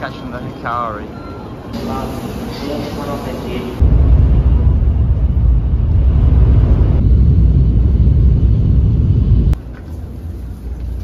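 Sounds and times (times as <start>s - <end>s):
train rumbling: 1.2s - 11.0s.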